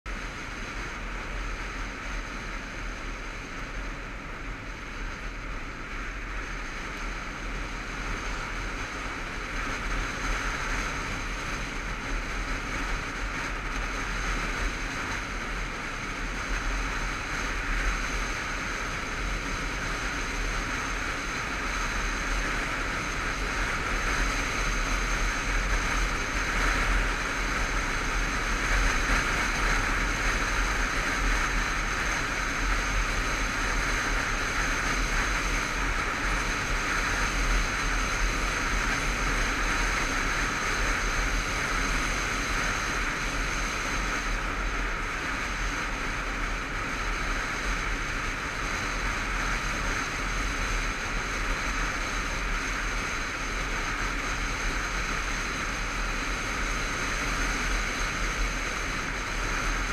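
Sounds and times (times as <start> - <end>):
motorcycle engine running: 0.1 - 59.9.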